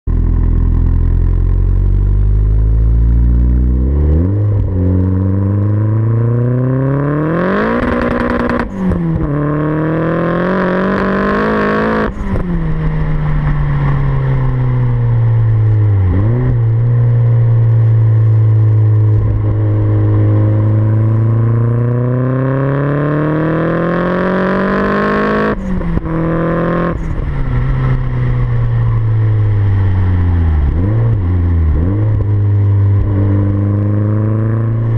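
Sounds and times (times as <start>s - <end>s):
turbocharged car engine accelerating: 0.1s - 34.9s.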